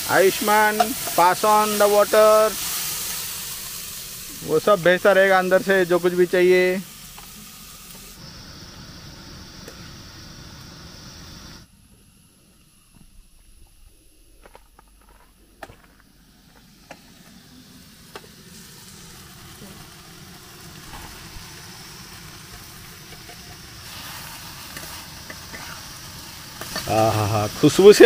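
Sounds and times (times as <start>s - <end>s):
spices sizzling in a pan: 0.0s - 28.0s.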